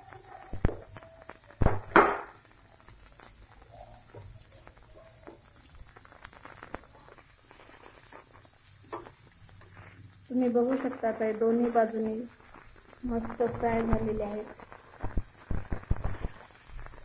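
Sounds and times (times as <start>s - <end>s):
hot oil crackling in a pan: 0.0s - 17.0s.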